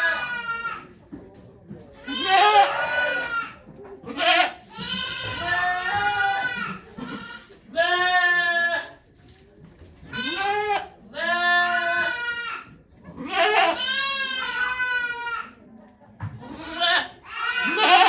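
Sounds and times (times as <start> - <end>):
goat bleating: 0.0 - 0.8, 2.0 - 9.0, 10.1 - 15.6, 16.4 - 18.0.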